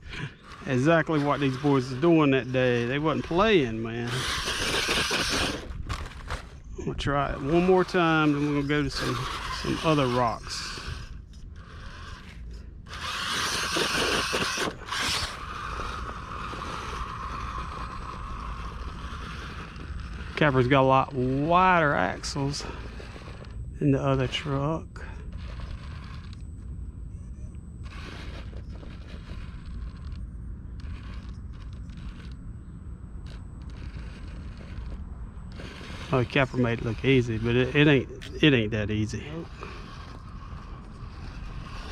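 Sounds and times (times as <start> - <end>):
scrapes and clicks on rock: 0.0 - 26.7, 27.5 - 32.4, 33.2 - 41.9
toy motor and gears whirring: 0.0 - 41.9.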